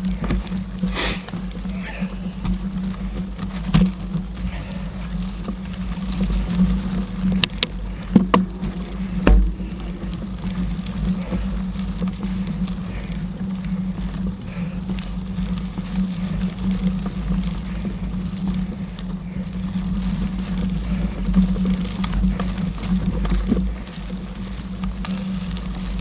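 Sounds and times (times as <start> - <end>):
bike tyres rumbling on trail: 0.0 - 26.0
small rattles and clicks: 0.0 - 26.0
wind on microphone: 0.0 - 26.0.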